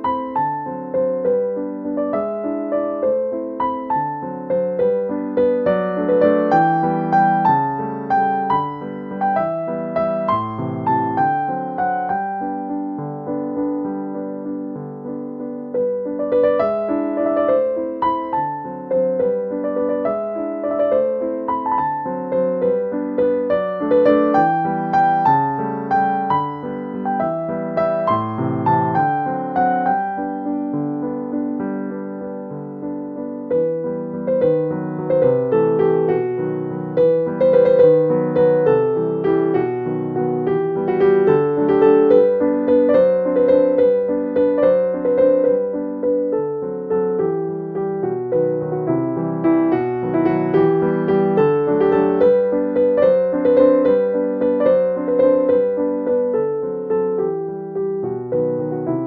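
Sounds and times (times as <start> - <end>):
piano melody: 0.0 - 59.0.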